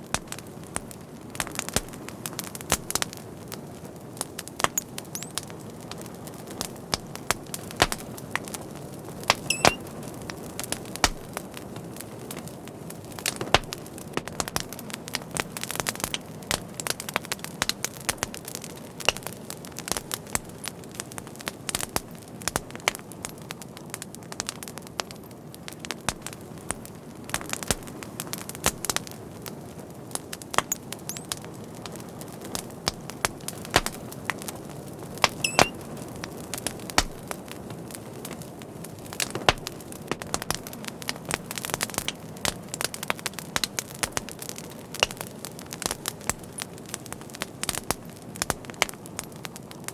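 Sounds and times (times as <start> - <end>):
fire crackling and popping: 0.0 - 49.9
flames rustling: 0.0 - 49.9.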